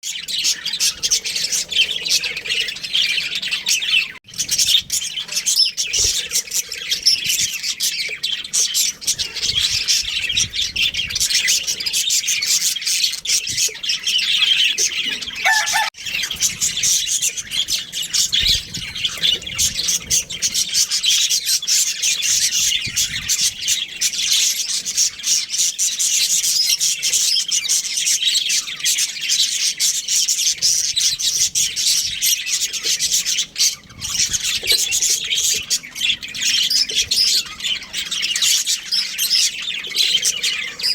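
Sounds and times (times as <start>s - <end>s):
budgerigars chattering: 0.1s - 40.9s.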